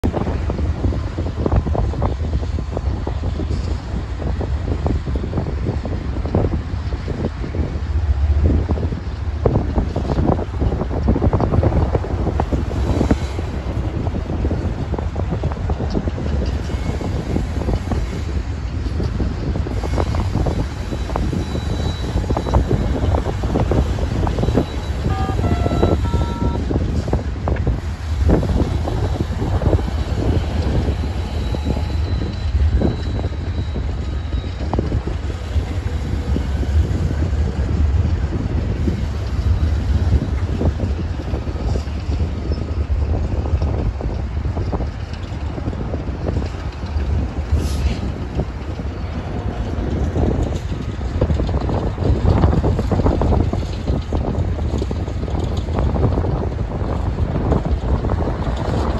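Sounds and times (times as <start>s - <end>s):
diesel locomotives rumbling: 0.0s - 58.9s
wind buffeting microphone: 0.0s - 58.9s.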